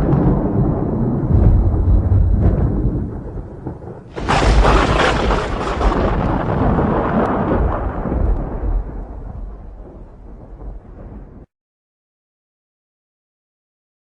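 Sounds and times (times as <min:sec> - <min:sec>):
sharp thunderclap: 0:00.0 - 0:11.5
thunder rumbling: 0:00.0 - 0:11.5.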